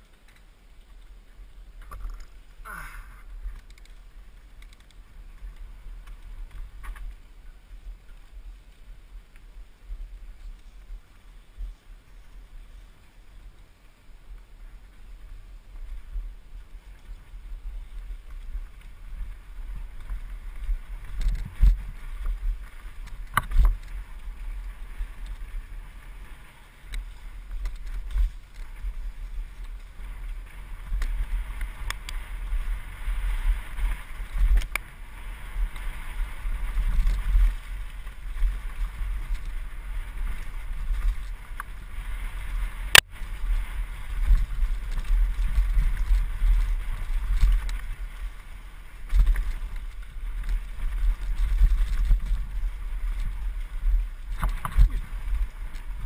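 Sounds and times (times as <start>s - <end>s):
bike rattling: 0.0s - 56.0s
bike tyres rolling over dirt: 0.0s - 56.0s
wind rumble on microphone: 0.0s - 56.0s.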